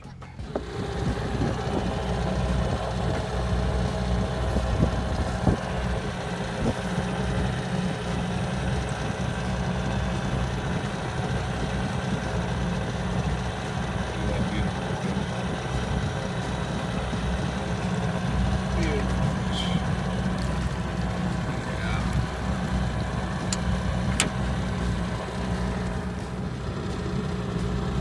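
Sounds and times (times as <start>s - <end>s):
outboard motor idling: 0.0s - 28.0s.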